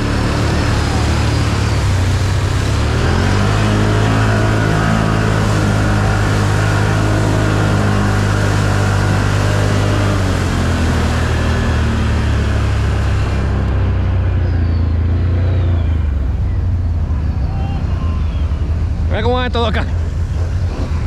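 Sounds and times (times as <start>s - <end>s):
atv engine running: 0.0s - 21.0s
continuous rushing noise: 0.0s - 21.0s.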